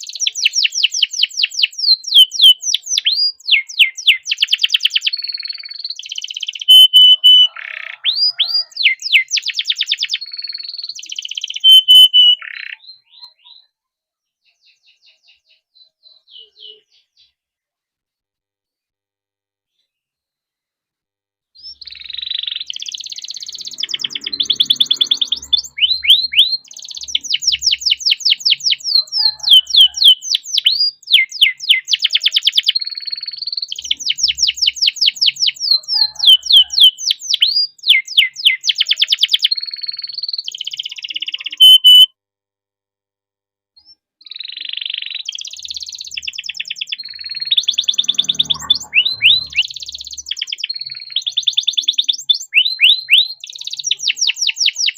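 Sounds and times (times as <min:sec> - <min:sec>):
canary singing trills: 0:00.0 - 0:13.8, 0:14.4 - 0:17.4, 0:21.6 - 0:42.1, 0:44.2 - 0:54.9.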